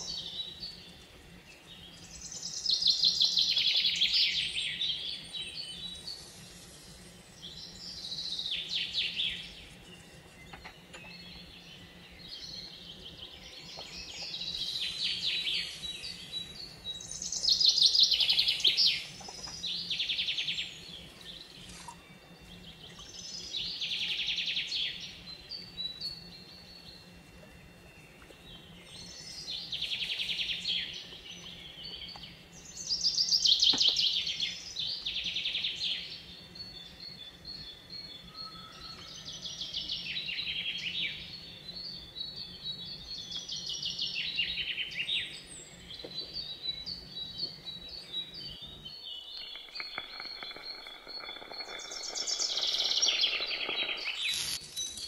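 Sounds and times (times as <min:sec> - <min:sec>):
low steady hum: 0:00.0 - 0:55.0
songbirds singing: 0:00.0 - 0:55.0.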